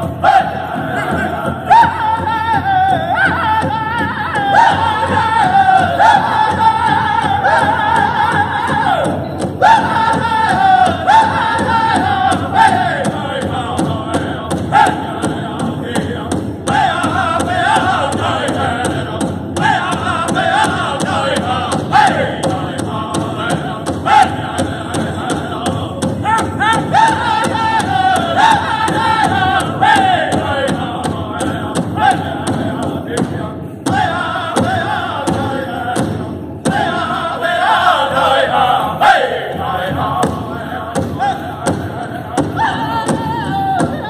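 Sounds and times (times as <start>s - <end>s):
big drum beat: 0.0s - 44.0s
group singing in unison: 0.0s - 44.0s.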